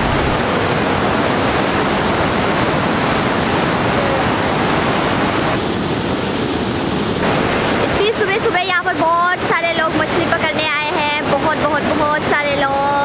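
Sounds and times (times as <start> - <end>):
water rushing through sluice gate: 0.0 - 13.0.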